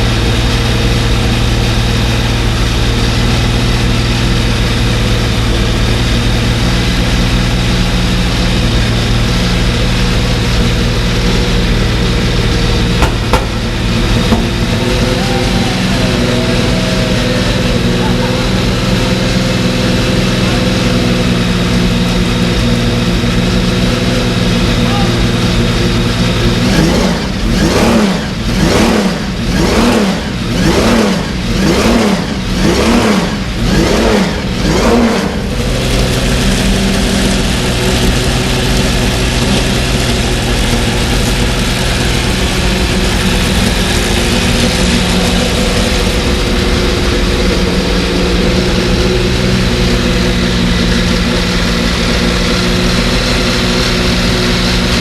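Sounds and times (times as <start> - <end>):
racing engine idling and revving: 0.0 - 55.0.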